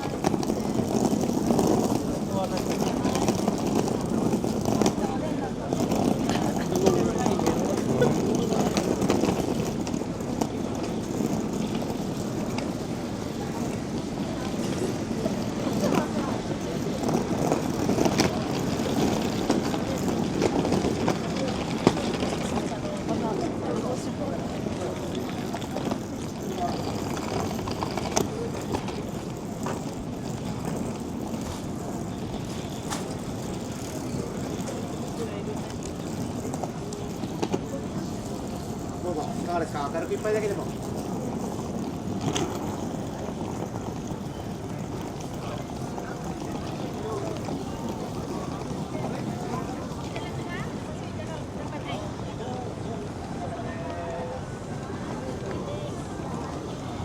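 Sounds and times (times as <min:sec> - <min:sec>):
street hubbub: 0:00.0 - 0:57.0.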